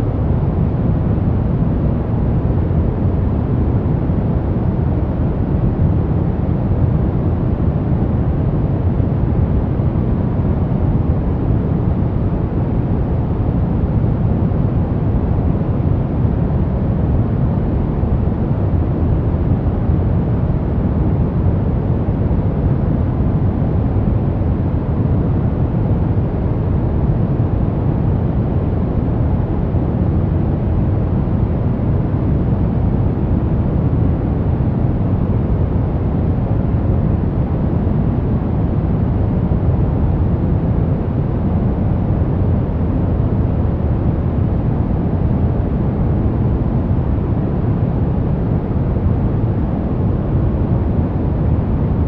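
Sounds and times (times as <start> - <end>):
deep white noise rush: 0.0 - 52.0.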